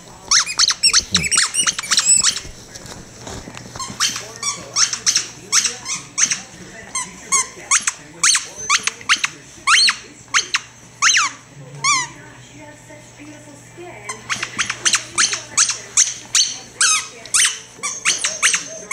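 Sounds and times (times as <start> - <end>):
squeaky toy squeaking: 0.3 - 2.4, 3.8 - 12.1, 14.1 - 18.9.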